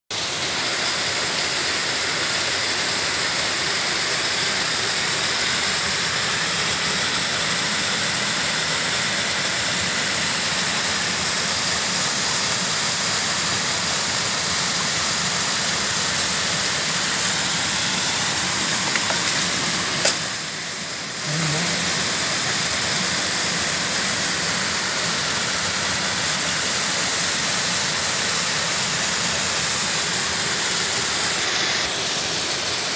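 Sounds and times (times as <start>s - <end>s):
creek water rushing: 0.1s - 32.9s.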